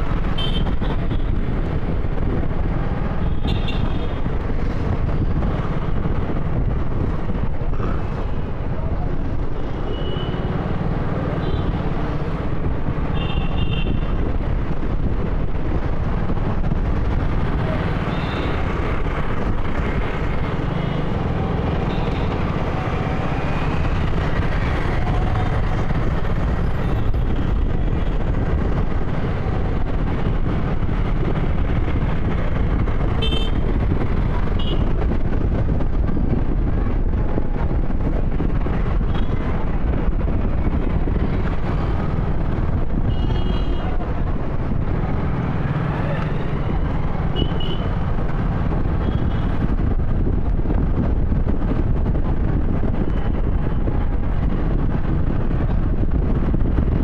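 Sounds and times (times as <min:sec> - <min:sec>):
motorcycle engine and road rumble: 0:00.0 - 0:57.0.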